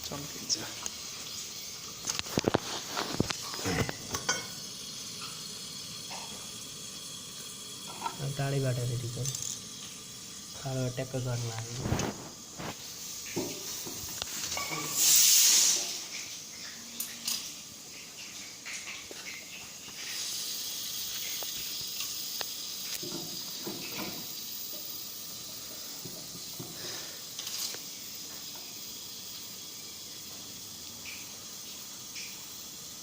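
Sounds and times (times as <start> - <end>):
pressurised gas hissing: 0.1 - 16.4, 19.8 - 33.0.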